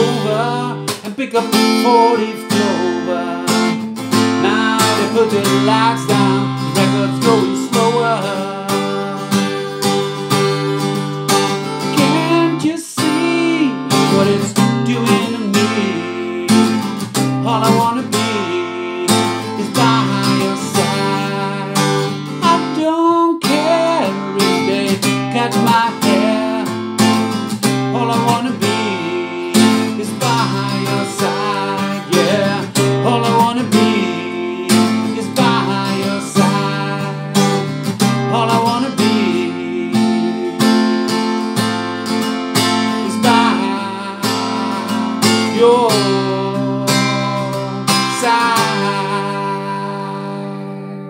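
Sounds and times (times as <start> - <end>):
acoustic guitar strumming: 0.0 - 51.0
man singing: 0.0 - 51.0.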